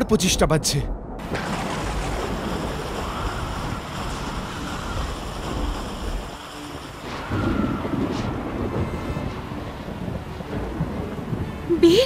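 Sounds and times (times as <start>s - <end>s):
rushing storm wind: 0.0s - 12.0s.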